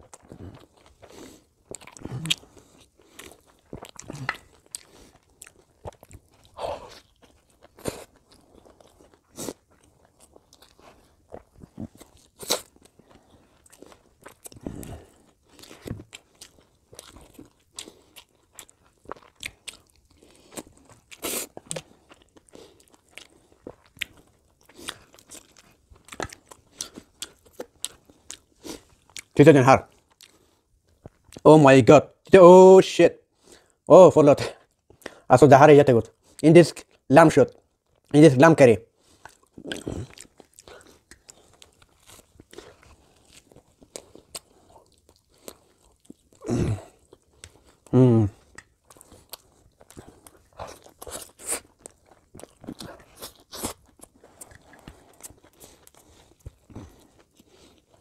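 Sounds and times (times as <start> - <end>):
food crunching: 0.0 - 31.4, 39.0 - 58.0
man chewing and biting food: 0.0 - 31.4, 36.1 - 38.1, 38.9 - 58.0.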